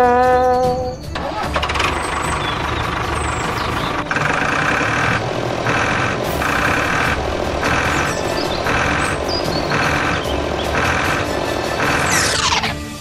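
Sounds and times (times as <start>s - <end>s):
pulsing higher engine layer: 0.0s - 13.0s
tractor engine running: 0.1s - 13.0s.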